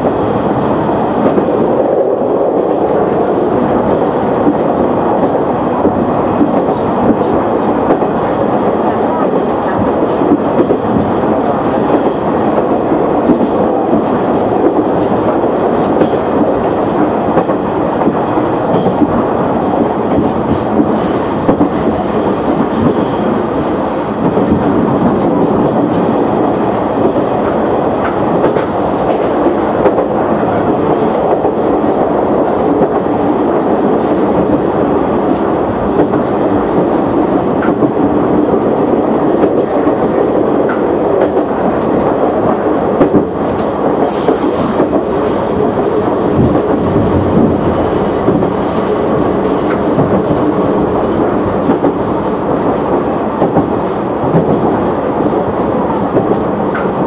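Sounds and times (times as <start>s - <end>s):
railcar engine rumble: 0.0s - 57.0s.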